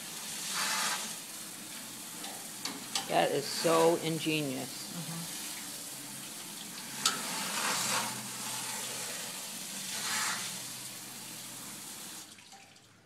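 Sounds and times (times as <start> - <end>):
water spray hissing and spattering: 0.0 - 12.4.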